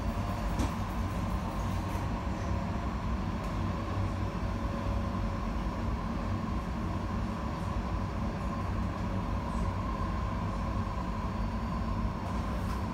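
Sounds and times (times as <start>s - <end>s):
tram wheels rumbling on rails: 0.0s - 11.3s.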